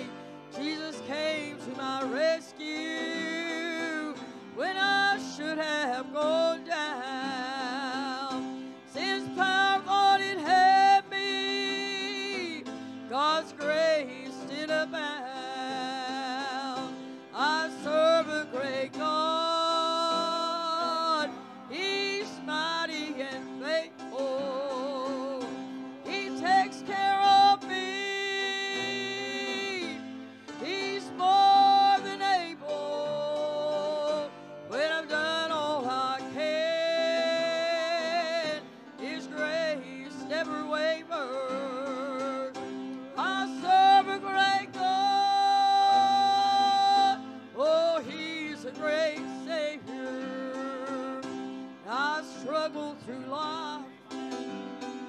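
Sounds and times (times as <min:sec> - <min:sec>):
man singing gospel song: 0:00.0 - 0:54.1
instrumental accompaniment: 0:00.0 - 0:55.0.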